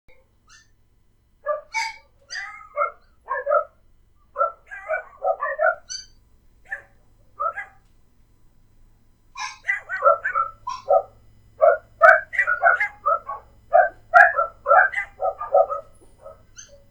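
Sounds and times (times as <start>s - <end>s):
dogs barking: 1.4s - 7.9s, 9.4s - 16.9s.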